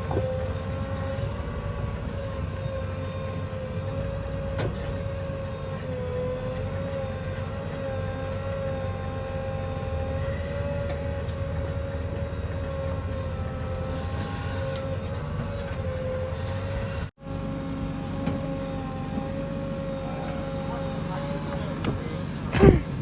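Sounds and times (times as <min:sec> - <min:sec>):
diesel engine rumbling and whining: 0:00.0 - 0:23.0.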